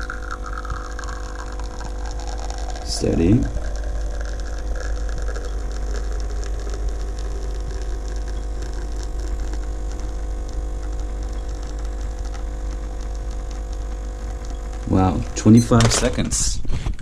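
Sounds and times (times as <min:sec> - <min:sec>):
espresso machine pump humming: 0:00.0 - 0:16.2.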